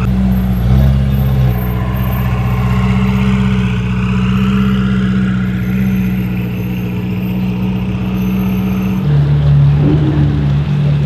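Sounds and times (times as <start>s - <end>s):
sports car engine at low revs: 0.0s - 11.0s.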